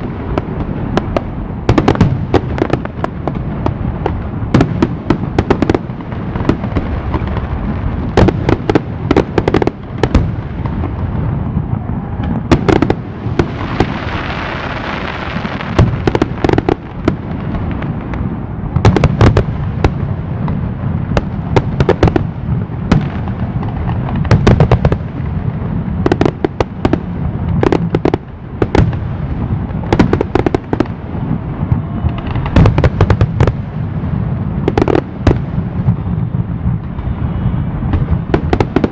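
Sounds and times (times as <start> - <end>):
firework crackling hiss: 0.0 - 38.9.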